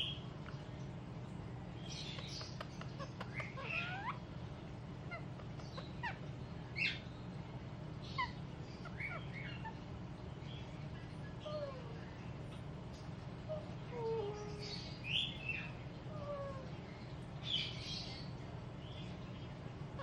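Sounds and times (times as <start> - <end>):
parakeet chirping and calling: 1.8 - 7.3, 7.9 - 20.0.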